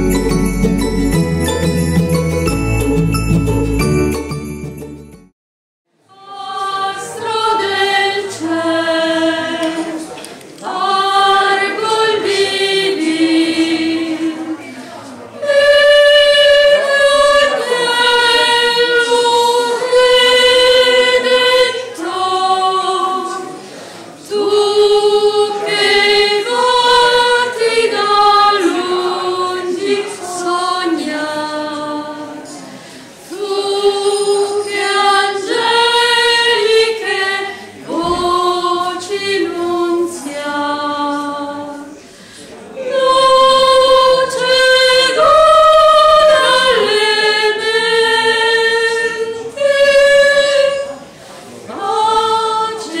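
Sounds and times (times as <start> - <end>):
women singing a cappella: 6.0 - 53.0.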